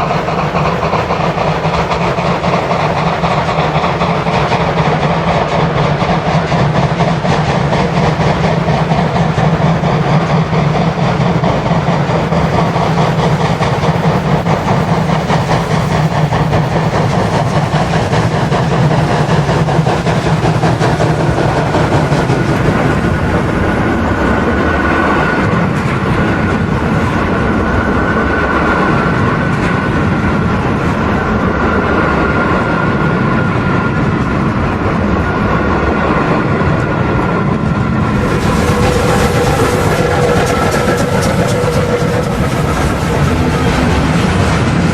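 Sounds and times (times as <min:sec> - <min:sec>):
model train wheels rattling on track: 0:00.0 - 0:27.2, 0:32.8 - 0:44.9.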